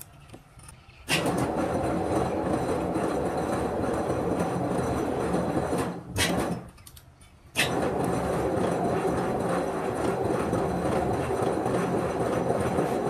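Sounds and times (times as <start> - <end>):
loud machine rumbling: 1.0 - 6.8, 7.5 - 13.0.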